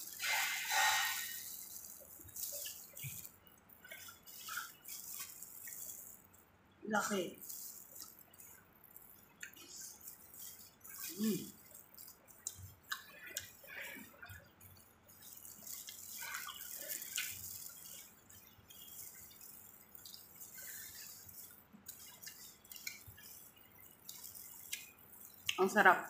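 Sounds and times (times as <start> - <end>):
people eating wetly: 0.0 - 26.0.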